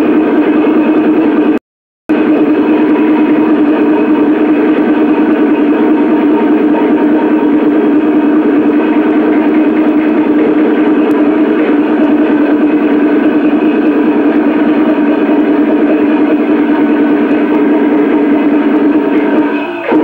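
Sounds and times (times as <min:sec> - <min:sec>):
drums gongs and cymbals playing: 0:00.0 - 0:20.0
ringing tone: 0:02.1 - 0:20.0.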